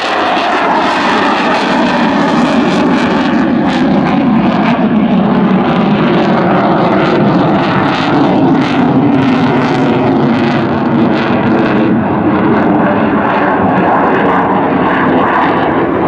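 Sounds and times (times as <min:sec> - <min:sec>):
jet roar with crackle: 0:00.0 - 0:16.0.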